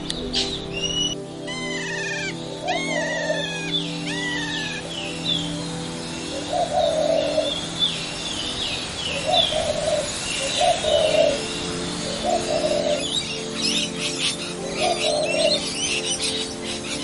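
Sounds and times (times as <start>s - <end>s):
soft sustained music tones: 0.0s - 17.0s
low cooing call: 0.3s - 4.9s, 6.3s - 7.7s, 9.1s - 17.0s.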